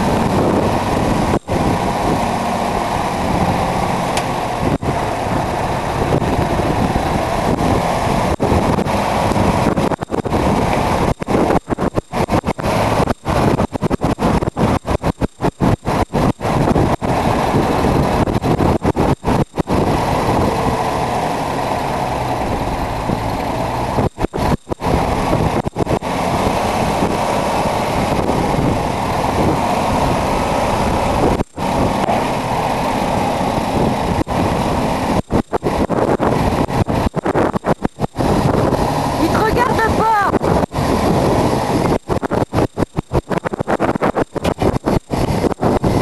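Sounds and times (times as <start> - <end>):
diesel truck engine running: 0.0 - 46.0
wind buffeting microphone: 0.0 - 46.0.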